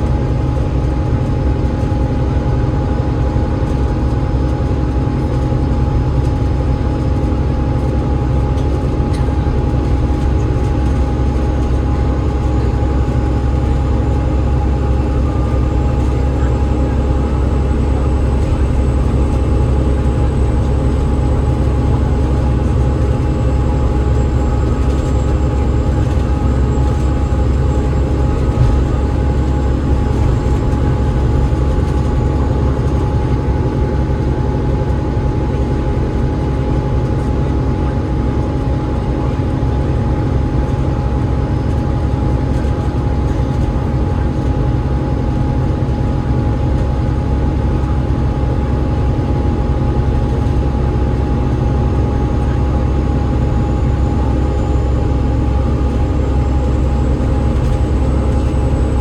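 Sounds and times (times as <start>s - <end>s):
bus engine rumbling: 0.0s - 59.0s
constant gearbox whine: 0.0s - 59.0s.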